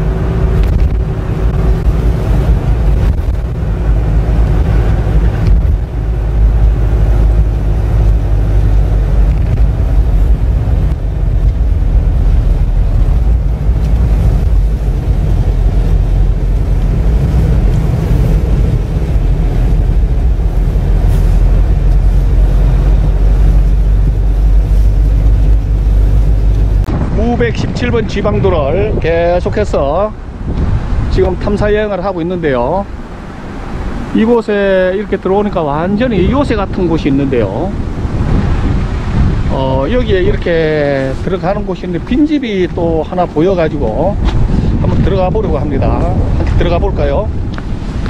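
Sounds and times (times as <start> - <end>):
vehicle driving on road: 0.0 - 48.0
wind noise: 0.0 - 48.0.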